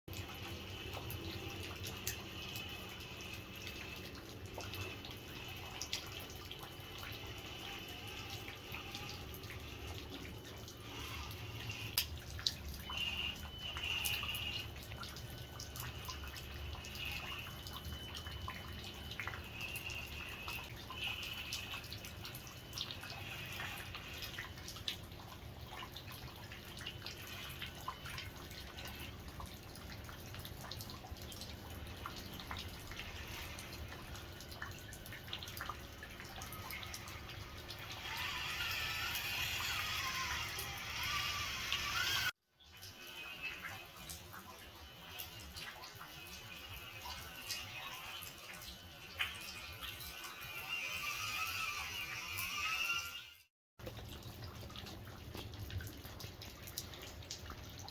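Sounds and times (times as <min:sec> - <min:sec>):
rainwater dripping: 0:00.1 - 0:57.9.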